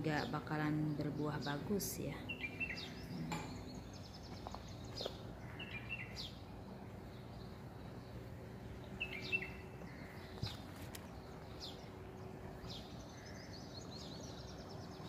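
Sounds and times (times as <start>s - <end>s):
faint steady hum: 0.0s - 15.0s
small birds chirping: 0.0s - 15.0s.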